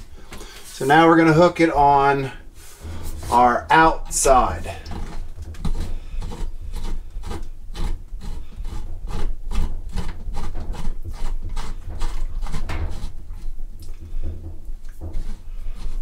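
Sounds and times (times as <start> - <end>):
hose coupling rasping on threads: 0.0 - 16.0.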